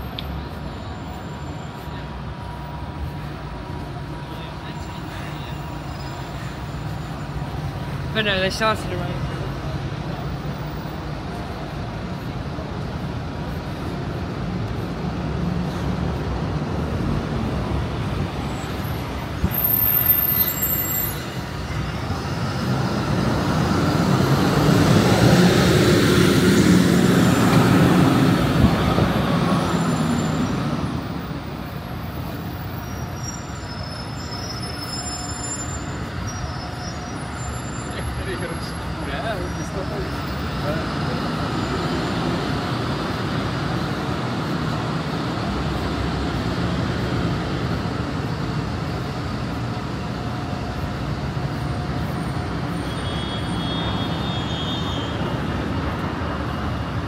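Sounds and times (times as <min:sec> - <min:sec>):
bus driving past: 0:00.0 - 0:57.0
road traffic: 0:00.0 - 0:57.0.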